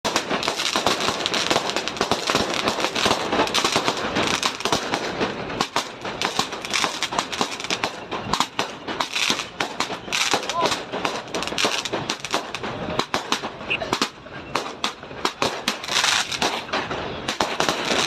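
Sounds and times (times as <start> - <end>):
firecrackers going off: 0.0 - 18.0.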